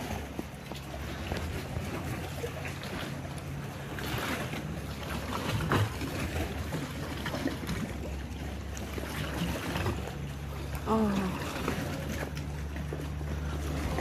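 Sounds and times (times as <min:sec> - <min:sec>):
low steady drone: 0:00.0 - 0:14.0
paddle splashes: 0:00.0 - 0:14.0
water sloshing against hull: 0:00.0 - 0:14.0.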